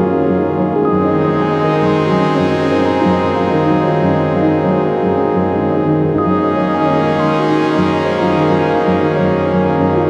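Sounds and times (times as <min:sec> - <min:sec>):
background music with brass chords: 0:00.0 - 0:10.0.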